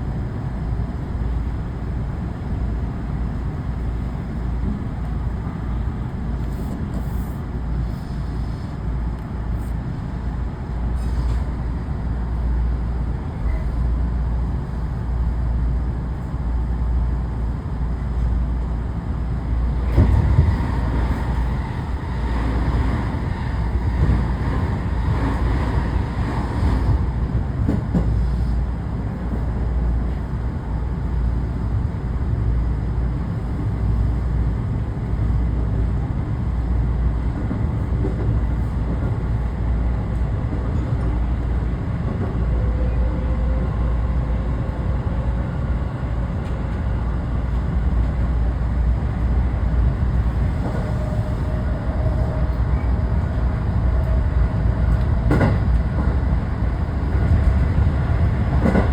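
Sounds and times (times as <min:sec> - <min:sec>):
train running rumble: 0:00.0 - 0:58.9.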